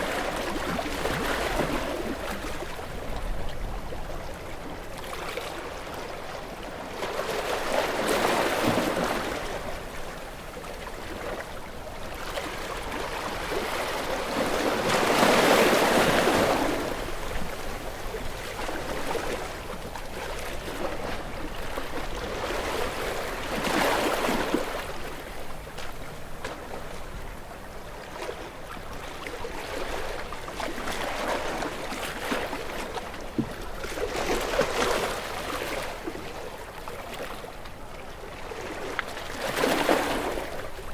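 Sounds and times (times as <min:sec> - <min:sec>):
ocean waves breaking on rocks: 0:00.0 - 0:27.4, 0:28.0 - 0:40.9.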